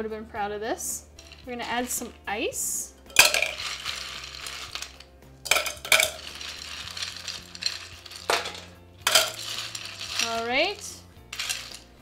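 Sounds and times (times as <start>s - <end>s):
ice cubes clinking in glass: 1.2s - 2.2s, 3.0s - 12.0s.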